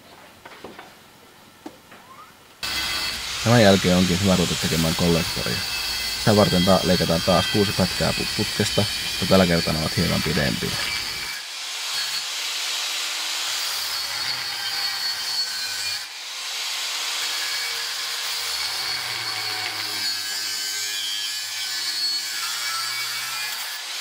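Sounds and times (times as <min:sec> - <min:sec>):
angle grinder cutting steel pipe: 0:02.6 - 0:24.0.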